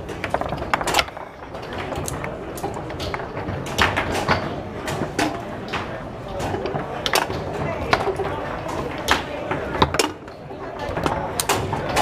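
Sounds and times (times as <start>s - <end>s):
foosball ball knocks: 0.0s - 12.0s
foosball rods clacking: 0.0s - 12.0s.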